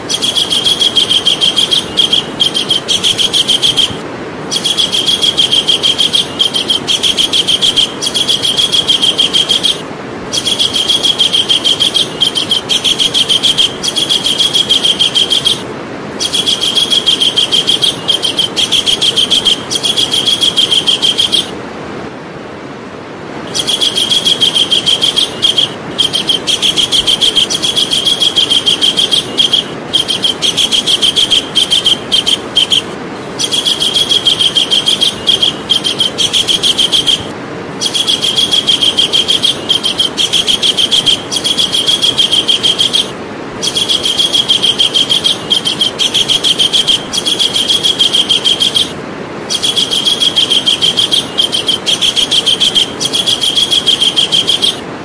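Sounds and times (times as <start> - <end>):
kingfisher calling: 0.0 - 21.6, 23.4 - 54.9
background hiss: 0.0 - 55.0.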